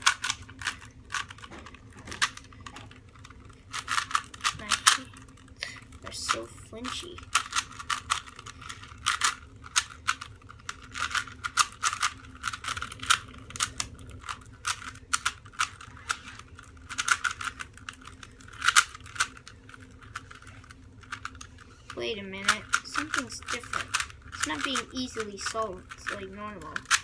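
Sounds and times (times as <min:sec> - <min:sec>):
puzzle cube twisting clicks: 0:00.0 - 0:21.6, 0:22.4 - 0:27.0.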